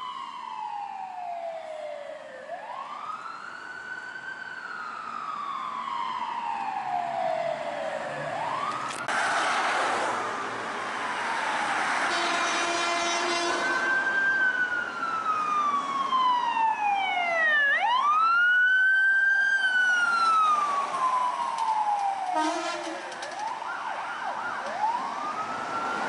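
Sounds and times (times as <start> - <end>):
emergency vehicle siren: 0.0 - 26.0.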